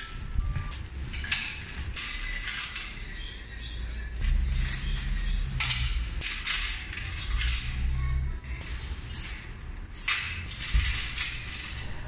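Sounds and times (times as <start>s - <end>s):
background music with low bass: 0.0s - 12.0s
coins clinking: 0.0s - 12.0s.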